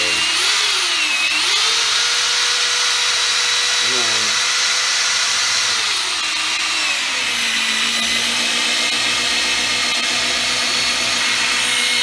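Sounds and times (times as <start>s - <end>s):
electric drill whining: 0.0s - 12.0s.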